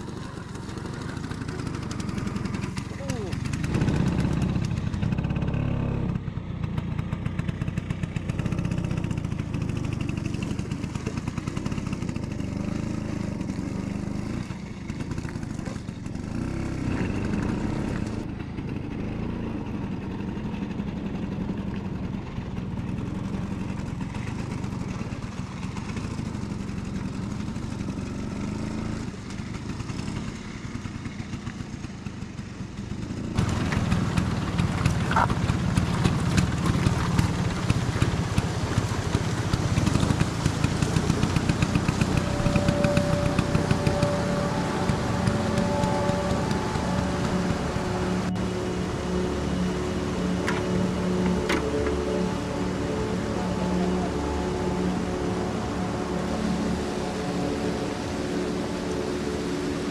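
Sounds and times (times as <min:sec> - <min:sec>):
scooter engine running under load: 0:00.0 - 0:59.9.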